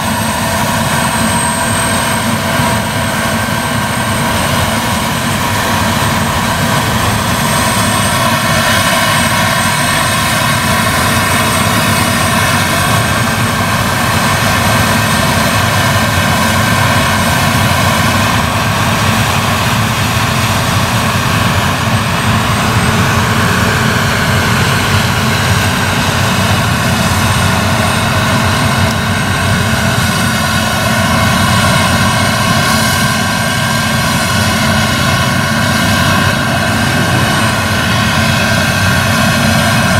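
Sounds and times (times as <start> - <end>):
combine harvester engine drone: 0.0 - 39.9
high steady whine: 0.0 - 39.9.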